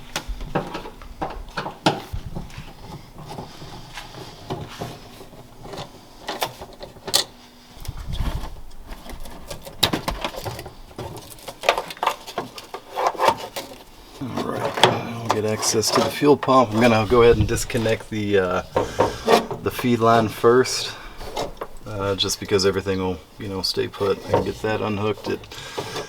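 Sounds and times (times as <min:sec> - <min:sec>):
clicks knocks and rustling of hand work: 0:00.0 - 0:22.9, 0:23.8 - 0:26.0
faint steady hum: 0:00.0 - 0:26.0.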